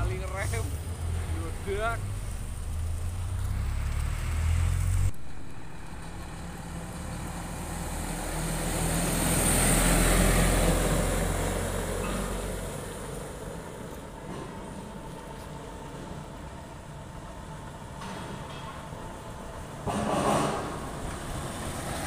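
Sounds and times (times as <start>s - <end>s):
truck driving off: 0.0s - 22.0s
truck passing close by: 0.0s - 22.0s.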